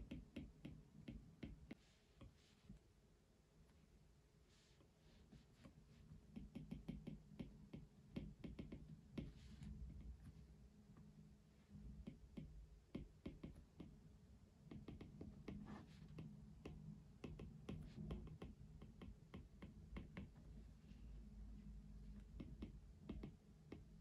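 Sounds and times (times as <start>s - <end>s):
faint clicking and tapping: 0.0s - 2.8s, 4.8s - 24.0s
low steady hum: 0.0s - 24.0s.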